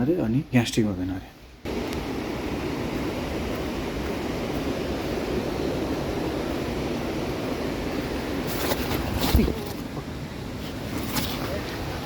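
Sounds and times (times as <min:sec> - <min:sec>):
mountain river rushing: 0:01.7 - 0:12.0.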